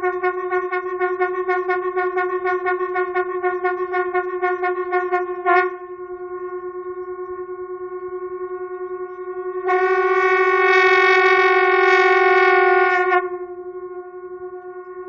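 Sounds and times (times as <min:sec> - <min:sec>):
conch shell drone: 0:00.0 - 0:15.0.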